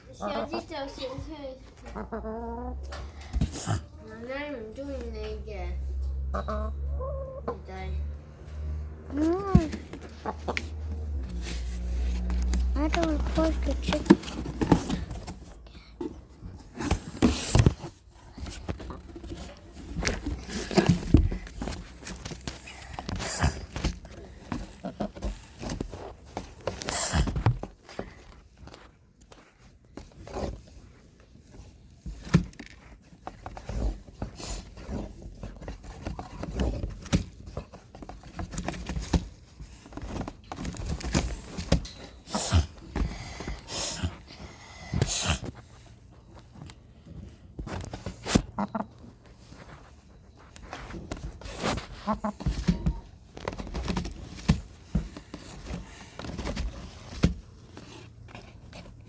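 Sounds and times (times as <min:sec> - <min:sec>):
chicken scratching and pecking: 0:00.0 - 0:59.0.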